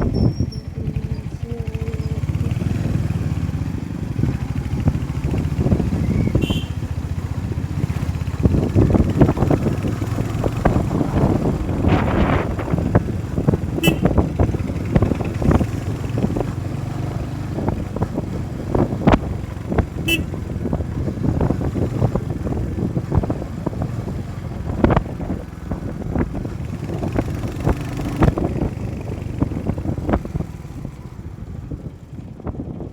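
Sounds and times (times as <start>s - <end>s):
motorcycle engine rumble: 0.0s - 32.9s.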